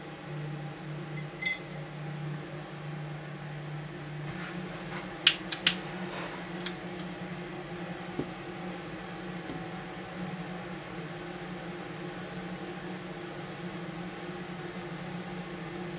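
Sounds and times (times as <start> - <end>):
extractor fan humming: 0.0 - 15.9.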